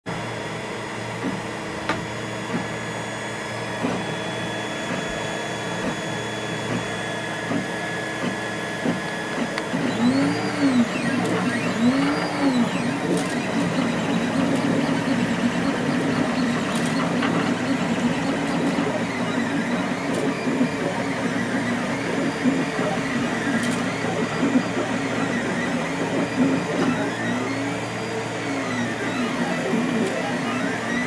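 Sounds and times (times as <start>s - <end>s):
printer stepper motors whining: 0.2s - 31.0s.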